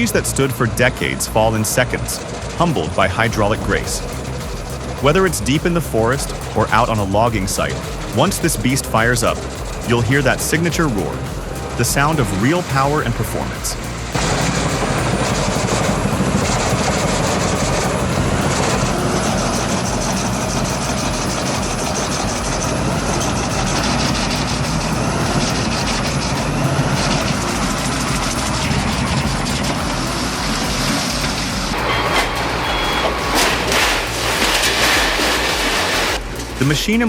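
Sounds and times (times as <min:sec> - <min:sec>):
faint high whine: 0:00.0 - 0:37.0
wood chipper running: 0:00.0 - 0:37.0.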